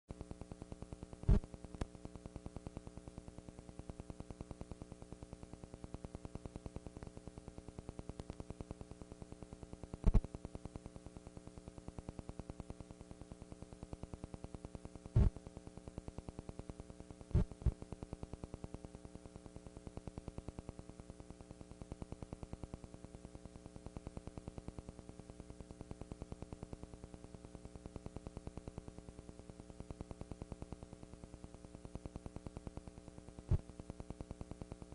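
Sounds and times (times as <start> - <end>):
electrical hum and buzz: 0.1 - 34.9.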